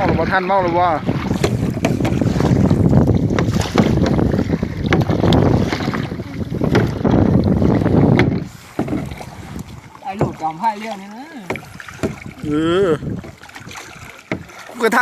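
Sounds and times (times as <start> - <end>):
wind buffeting microphone: 0.0 - 14.6
water around boat: 0.0 - 15.0.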